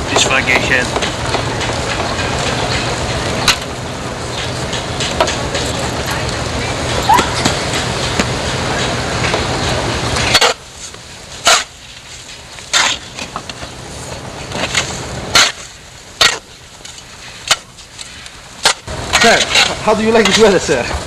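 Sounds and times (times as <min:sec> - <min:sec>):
steady background rush: 0:00.0 - 0:21.0.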